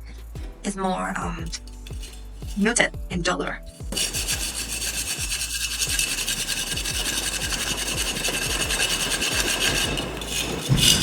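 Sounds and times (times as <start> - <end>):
charcoal sticks knocking together: 0.0 - 11.0.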